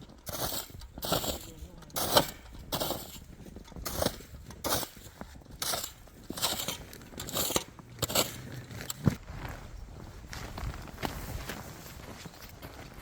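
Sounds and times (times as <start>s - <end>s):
footsteps crunching in snow: 0.3s - 13.0s.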